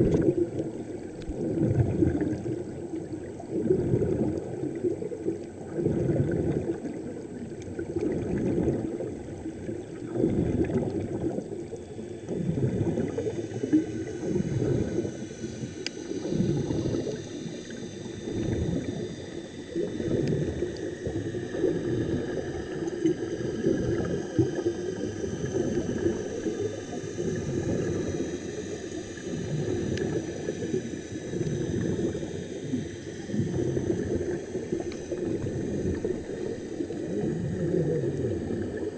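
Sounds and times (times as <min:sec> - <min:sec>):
underwater bubbling and gurgling: 0:00.0 - 0:38.9.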